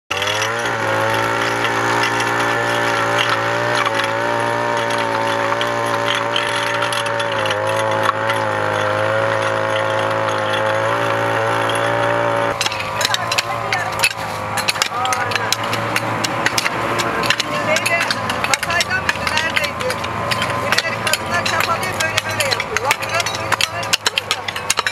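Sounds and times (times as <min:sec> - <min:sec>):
small tiller engine running: 0:00.1 - 0:24.9.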